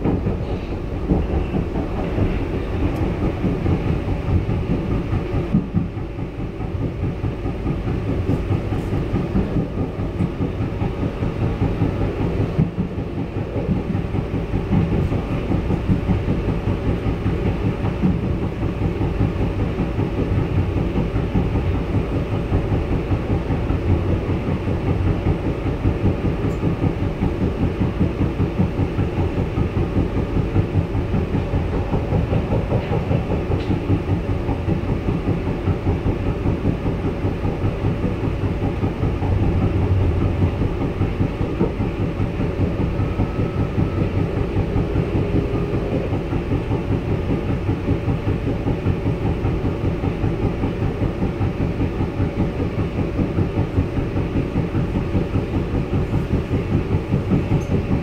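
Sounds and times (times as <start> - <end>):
metro train wheels rumbling on rail: 0.0 - 58.0.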